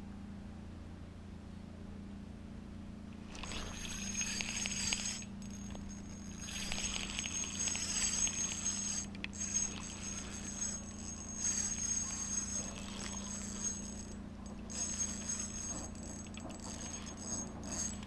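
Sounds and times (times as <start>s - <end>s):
fishing reel whirring and ticking: 3.2s - 18.0s.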